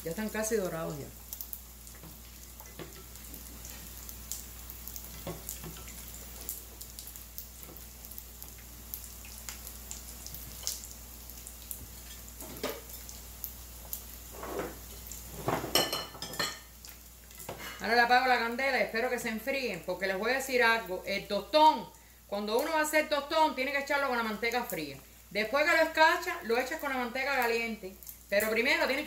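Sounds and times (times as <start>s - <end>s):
oil sizzling with pops: 0.0s - 29.0s.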